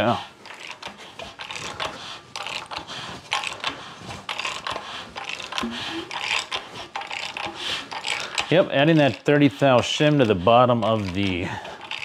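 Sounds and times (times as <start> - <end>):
engine valves clicking: 0.0 - 12.0.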